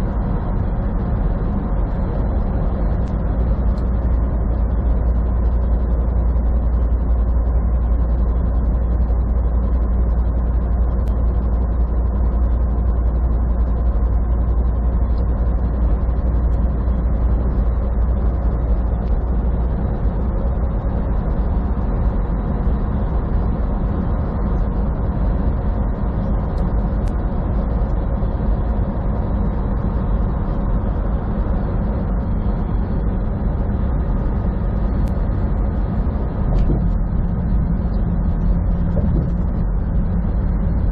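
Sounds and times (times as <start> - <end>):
diesel engine drone in truck cab: 0.0 - 40.9
road noise: 0.0 - 40.9.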